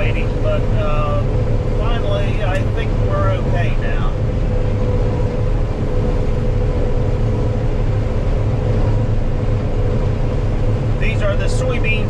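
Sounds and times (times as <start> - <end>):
combine harvester drone: 0.0 - 12.0
thin steady whine: 0.0 - 12.0.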